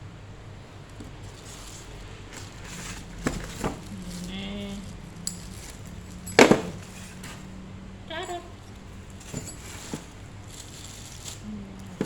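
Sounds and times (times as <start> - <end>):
metal parts being handled: 0.7 - 7.6, 8.2 - 12.0.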